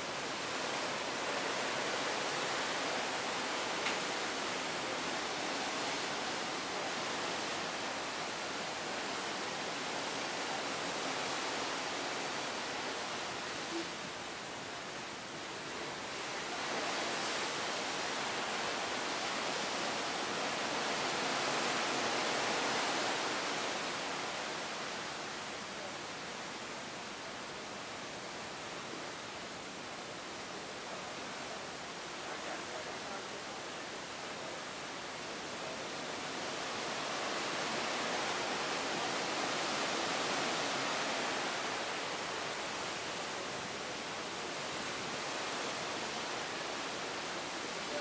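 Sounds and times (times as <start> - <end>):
sea washing along ship hull: 0.0 - 48.0.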